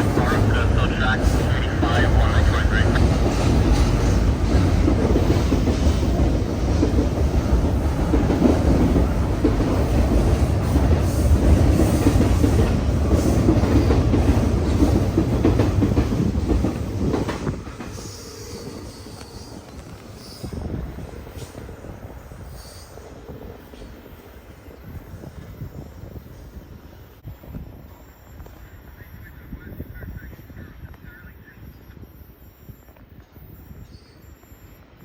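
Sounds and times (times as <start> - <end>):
train cars rumbling on rails: 0.0 - 35.0.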